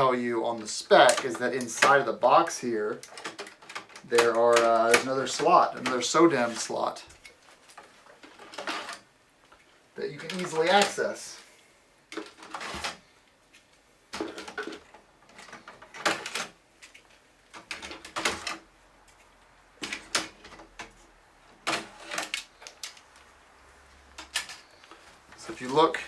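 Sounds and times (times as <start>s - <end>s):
plastic and metal parts clattering: 0.0s - 9.1s, 10.0s - 23.3s, 24.0s - 26.0s.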